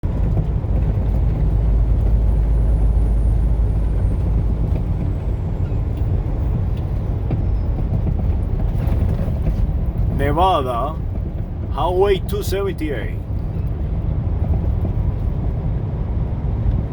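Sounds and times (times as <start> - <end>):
vehicle driving on highway: 0.1 - 16.9.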